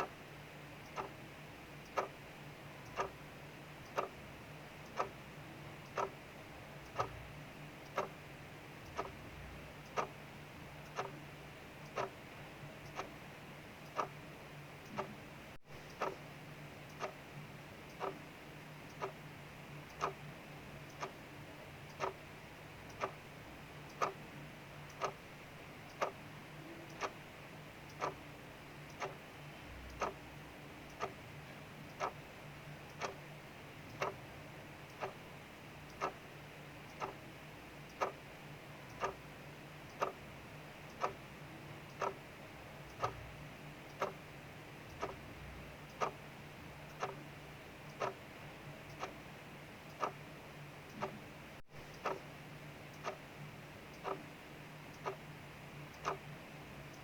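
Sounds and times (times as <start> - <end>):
faint low hum: 0.0 - 57.0
mechanical clock ticking: 0.0 - 57.0.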